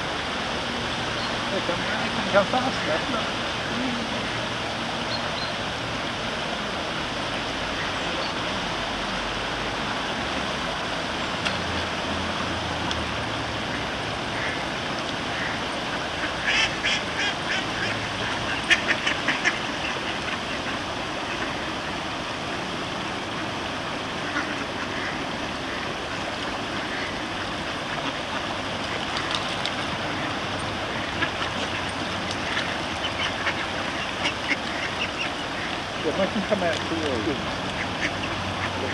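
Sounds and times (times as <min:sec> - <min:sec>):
fast-flowing stream: 0:00.0 - 0:38.9
ducks quacking: 0:01.1 - 0:05.6, 0:07.0 - 0:08.8, 0:13.5 - 0:38.9.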